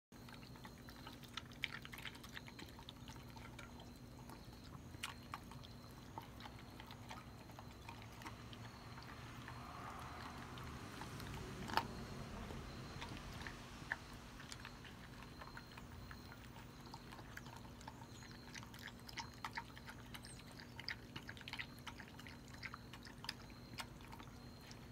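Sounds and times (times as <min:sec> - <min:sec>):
dog crunching kibble: 0:00.2 - 0:24.9
kibble clicking on metal bowl: 0:00.2 - 0:24.9.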